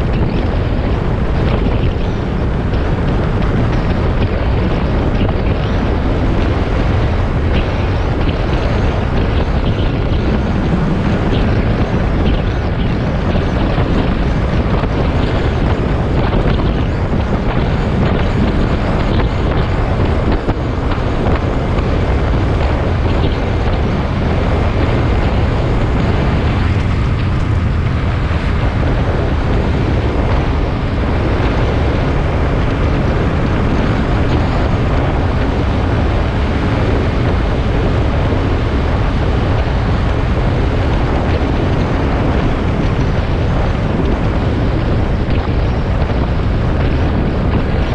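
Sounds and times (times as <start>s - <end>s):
wind rumble on microphone: 0.0s - 47.9s.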